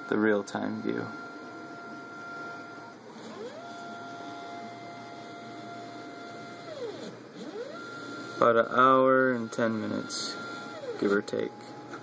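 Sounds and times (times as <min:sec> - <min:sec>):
stepper motors whining: 0:00.0 - 0:08.6, 0:09.2 - 0:11.7.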